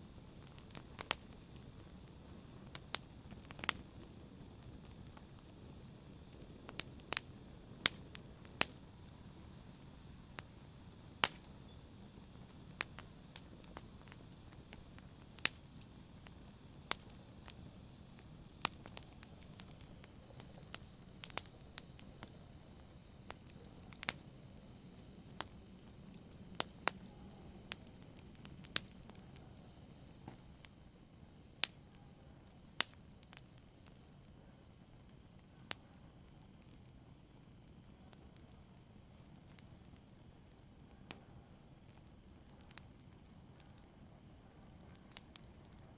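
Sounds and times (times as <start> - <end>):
logs crackling in a fireplace: 0.0 - 45.9
rush of flame: 0.0 - 45.9.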